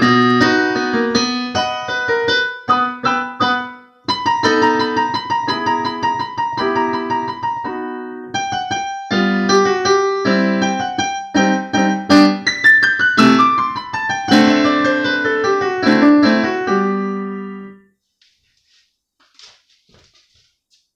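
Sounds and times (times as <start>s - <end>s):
digital piano playing: 0.0s - 17.9s.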